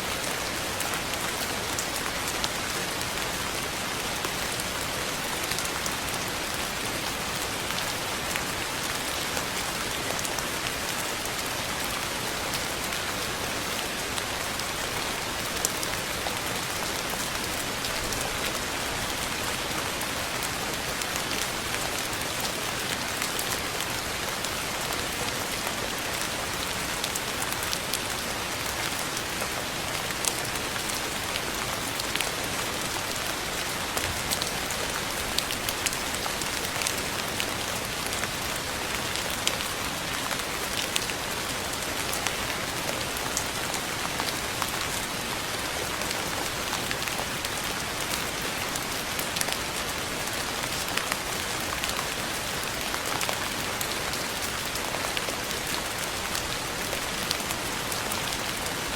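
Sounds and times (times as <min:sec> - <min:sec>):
rain pattering on surface: 0:00.0 - 0:58.9.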